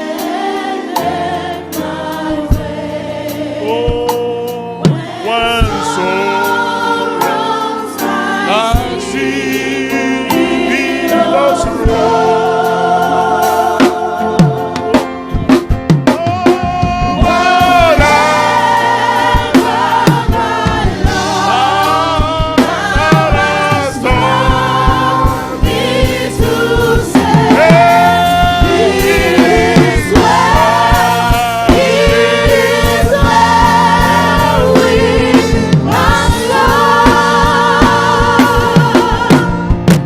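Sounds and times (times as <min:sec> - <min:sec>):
congregation singing: 0:00.0 - 0:40.0
instrumental backing: 0:00.0 - 0:40.0
lead singer singing gospel: 0:00.0 - 0:40.0.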